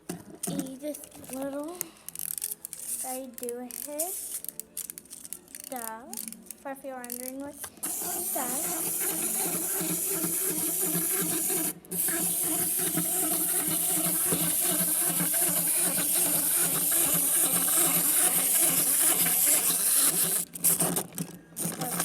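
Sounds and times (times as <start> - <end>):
fidget toy whirring: 0.4 - 22.0.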